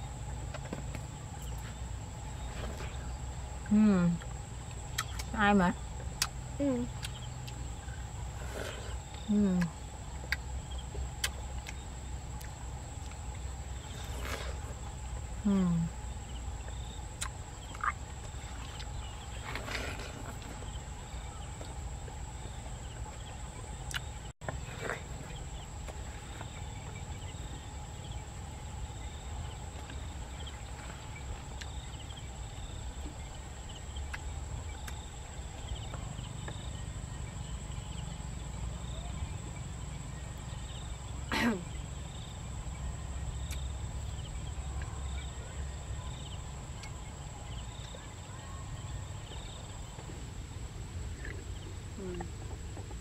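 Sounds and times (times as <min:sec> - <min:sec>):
high insect drone: 0:00.0 - 0:53.0
low steady rumble: 0:00.0 - 0:53.0.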